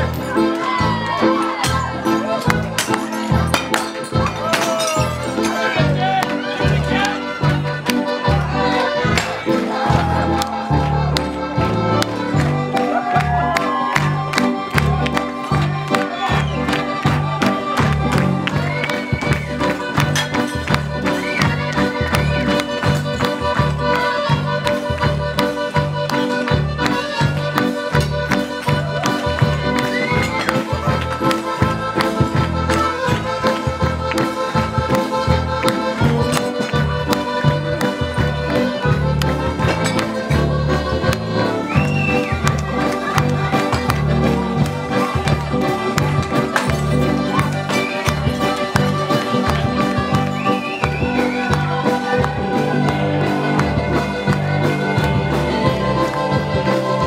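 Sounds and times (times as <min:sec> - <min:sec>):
accordion-like melody: 0:00.0 - 0:57.0.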